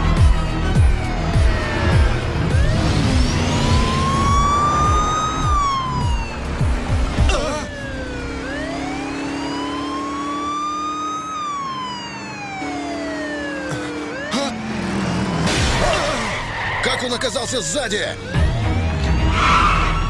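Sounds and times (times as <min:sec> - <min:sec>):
low vehicle drone: 0:00.0 - 0:16.6
police siren wailing: 0:00.0 - 0:20.0.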